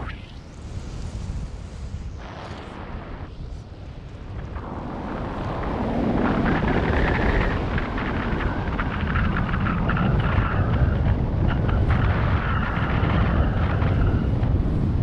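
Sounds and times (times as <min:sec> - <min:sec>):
wind buffeting microphone: 0:00.6 - 0:15.0.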